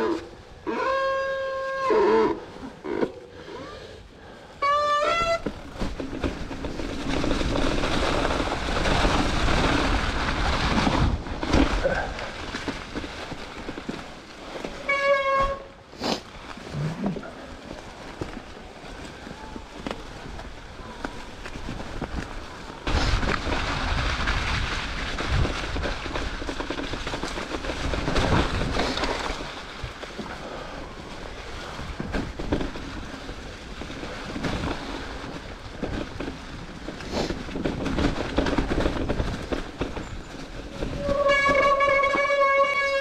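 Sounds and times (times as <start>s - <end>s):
bike rolling and rattling: 2.4s - 43.0s.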